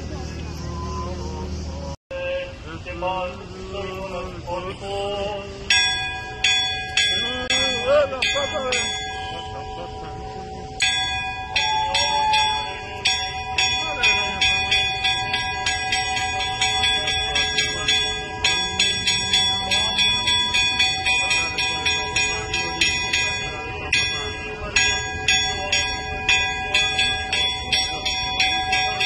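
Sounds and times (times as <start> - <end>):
steady held tones: 4.8 - 29.0
church bells pealing: 5.6 - 29.0.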